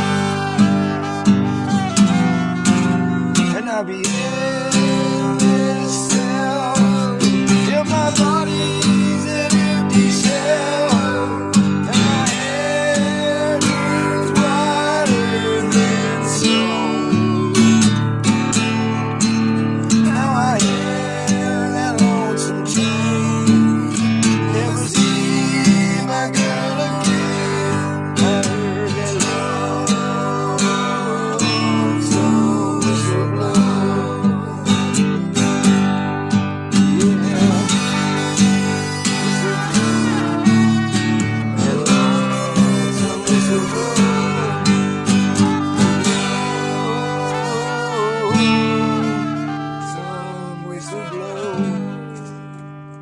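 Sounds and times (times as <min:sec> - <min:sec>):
wavering melody line: 0:00.0 - 0:05.5, 0:08.2 - 0:32.4, 0:37.0 - 0:52.4
acoustic guitar strumming: 0:00.0 - 0:53.0.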